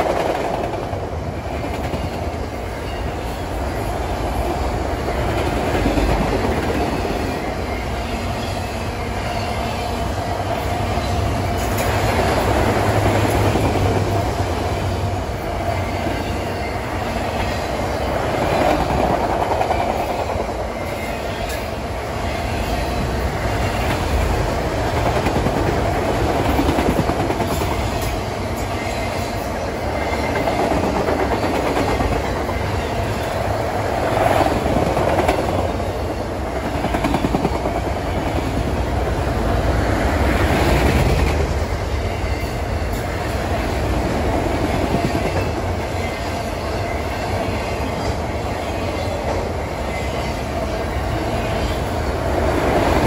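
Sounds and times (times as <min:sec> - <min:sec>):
steel wheels rumbling on rails: 0:00.0 - 0:53.0.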